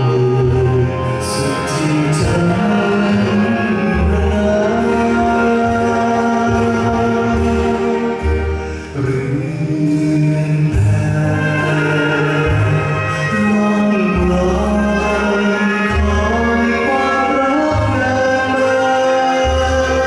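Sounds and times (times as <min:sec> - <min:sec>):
instrumental accompaniment: 0:00.0 - 0:20.0
man singing into microphone: 0:00.0 - 0:20.0.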